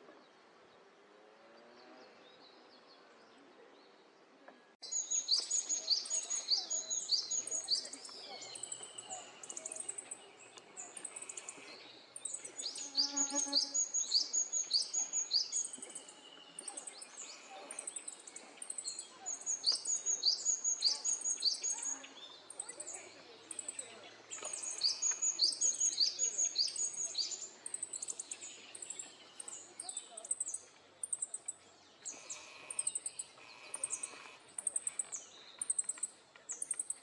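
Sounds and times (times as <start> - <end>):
songbird chirping: 0.0 - 37.0.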